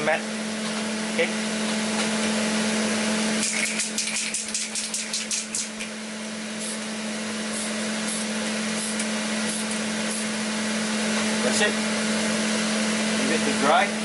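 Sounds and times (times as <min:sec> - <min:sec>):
exhaust fan humming: 0:00.0 - 0:14.0.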